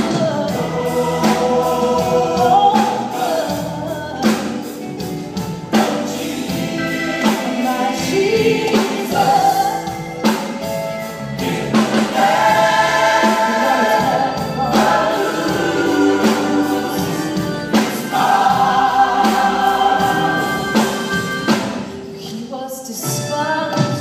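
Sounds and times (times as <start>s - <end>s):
gospel choir singing: 0.0s - 22.4s.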